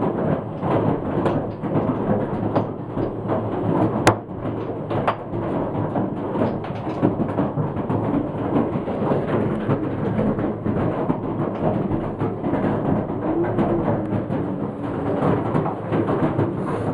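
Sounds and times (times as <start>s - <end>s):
heavy hail clattering: 0.0s - 16.9s.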